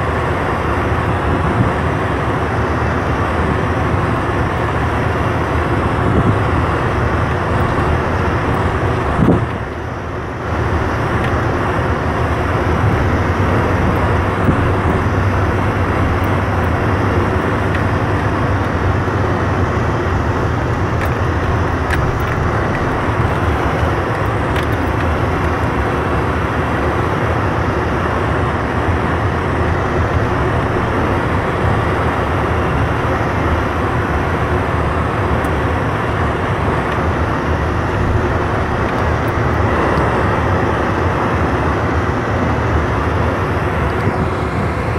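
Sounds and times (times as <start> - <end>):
vehicle engine hum: 0.0 - 44.9.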